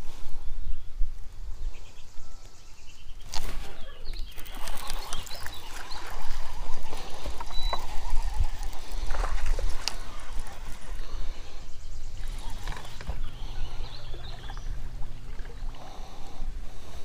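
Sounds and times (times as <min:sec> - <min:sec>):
wind buffeting microphone: 0:03.1 - 0:17.0.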